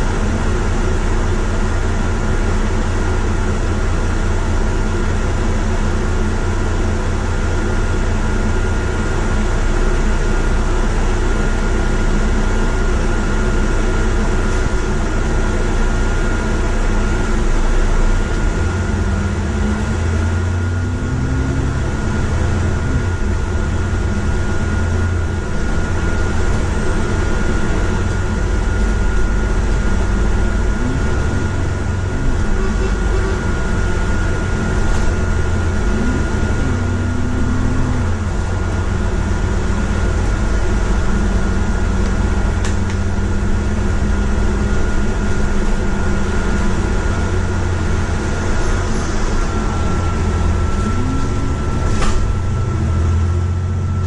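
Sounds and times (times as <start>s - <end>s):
bus engine rumble and whine: 0.0s - 54.0s.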